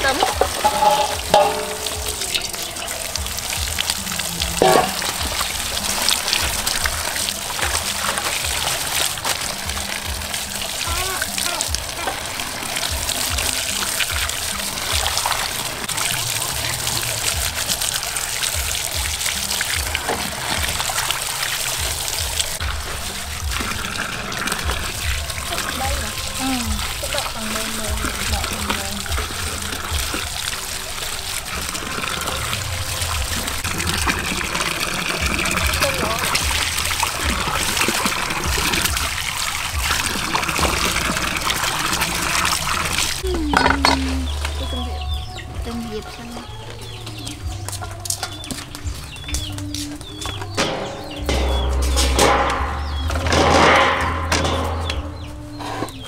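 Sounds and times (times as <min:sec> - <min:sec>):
tap water splashing: 0:00.0 - 0:44.6, 0:45.5 - 0:55.2
background music with low beat: 0:00.0 - 0:56.0.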